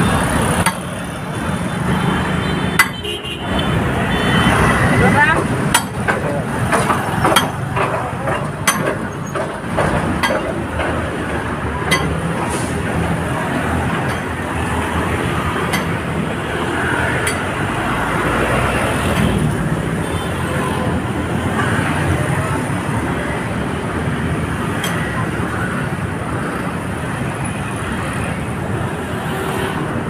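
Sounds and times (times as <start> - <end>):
rumble of passing vehicles: 0.0 - 30.0.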